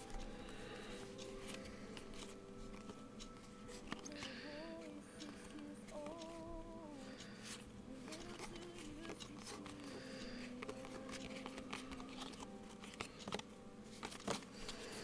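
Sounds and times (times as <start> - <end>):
cards being flicked through: 0.0 - 15.0
faint music: 0.0 - 15.0.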